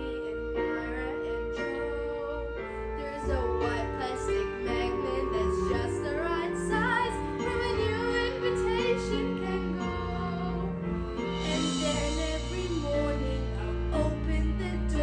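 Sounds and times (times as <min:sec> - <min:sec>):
girl singing: 0:00.0 - 0:15.0
instrumental accompaniment with bass: 0:00.0 - 0:15.0.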